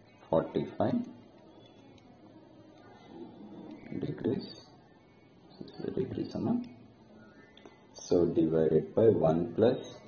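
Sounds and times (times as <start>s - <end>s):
low steady hiss: 0.0s - 10.0s.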